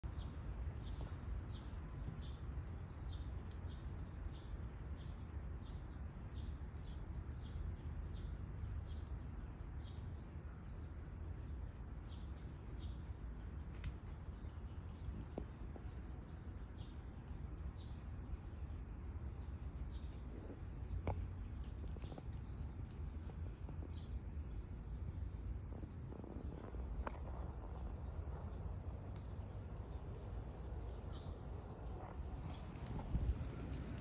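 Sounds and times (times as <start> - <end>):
low outdoor rumble: 0.0 - 34.0
small birds chirping: 0.0 - 34.0.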